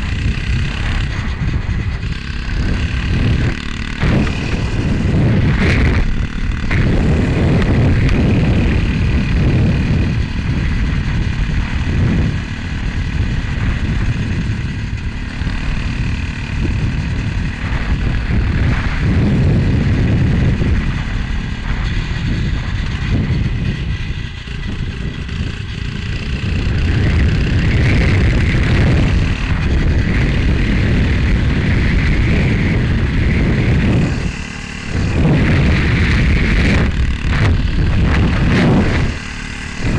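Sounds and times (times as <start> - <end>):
small engine running: 0.0 - 39.9
wind buffeting microphone: 0.0 - 39.9.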